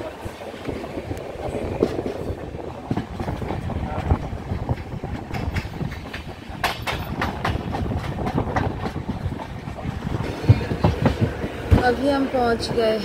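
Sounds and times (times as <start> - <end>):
train rumbling on rails: 0.0 - 13.0
wheels clacking over rail joints: 0.0 - 13.0.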